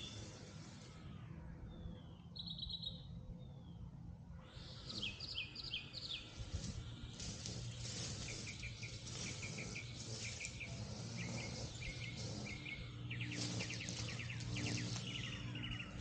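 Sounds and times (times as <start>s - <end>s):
bird chirping: 0.0s - 0.9s, 1.7s - 3.8s, 4.4s - 16.0s.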